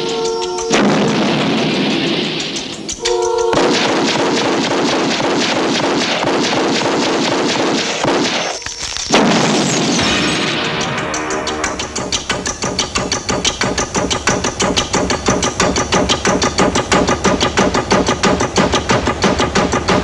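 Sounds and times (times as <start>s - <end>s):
film score music: 0.0s - 20.0s
rapid gunfire: 0.0s - 20.0s
loud blast: 0.6s - 20.0s.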